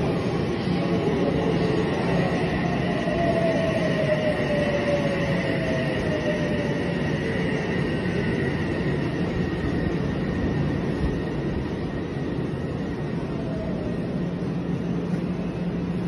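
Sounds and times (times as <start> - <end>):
train braking whine: 0.0 - 16.0
wheels rumbling on rail: 0.0 - 16.0.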